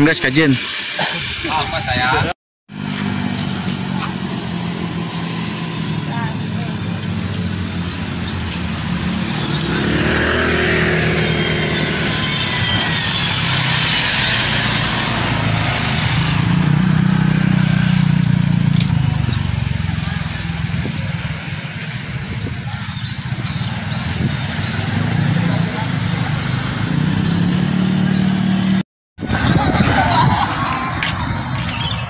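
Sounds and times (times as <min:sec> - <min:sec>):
vehicle engines passing: 0:00.0 - 0:32.0.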